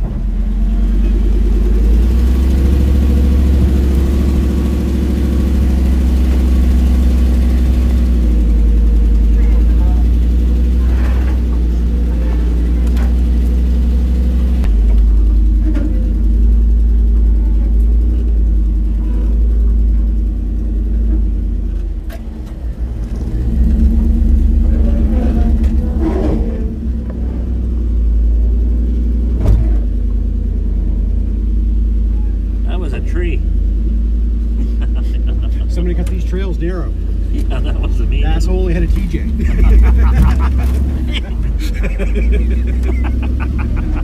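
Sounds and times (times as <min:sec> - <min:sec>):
car engine rumbling: 0:00.0 - 0:44.0.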